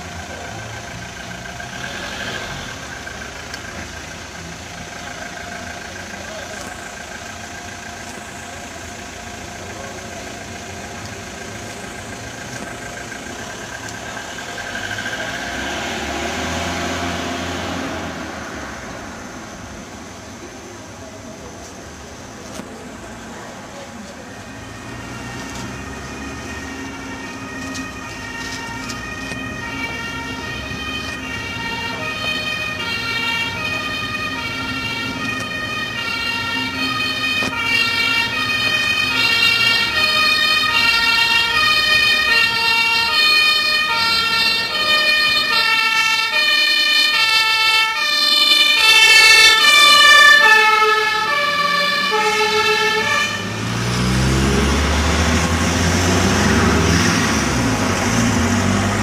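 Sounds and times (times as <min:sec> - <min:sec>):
two-tone fire truck siren: 0:00.0 - 0:19.2, 0:24.0 - 0:59.0.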